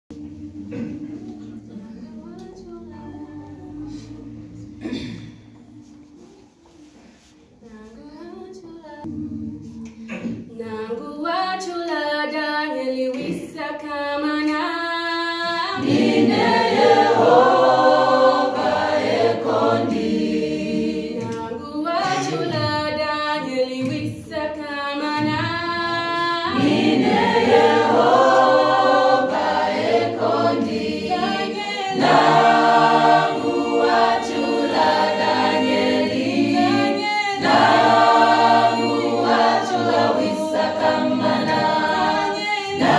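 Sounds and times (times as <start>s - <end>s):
choir singing a hymn: 0.1s - 7.4s, 12.8s - 23.9s, 24.8s - 42.9s.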